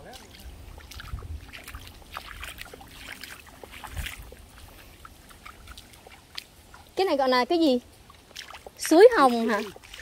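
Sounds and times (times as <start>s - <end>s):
stream water splashing: 0.0s - 10.0s.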